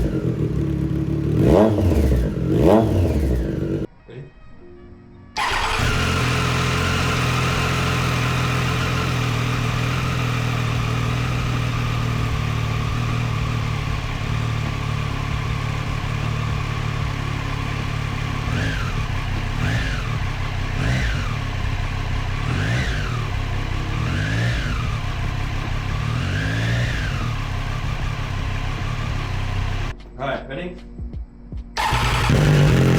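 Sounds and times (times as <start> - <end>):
motorcycle engine idling: 0.0 - 3.9, 5.4 - 29.9, 31.8 - 32.9
throttle blips revving engine: 0.0 - 3.9, 5.4 - 29.9, 31.8 - 32.9.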